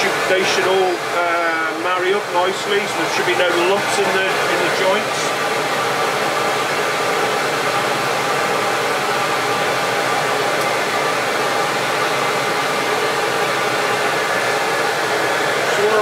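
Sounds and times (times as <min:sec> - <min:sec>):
dust extractor air rush: 0:00.0 - 0:16.0
faint motor whine: 0:00.0 - 0:16.0.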